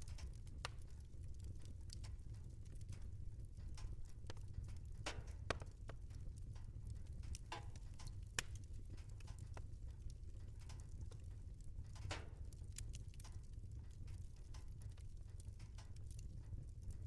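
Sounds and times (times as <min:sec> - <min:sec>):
fire crackling and popping: 0:00.0 - 0:17.0
low fire rumble: 0:00.0 - 0:17.0.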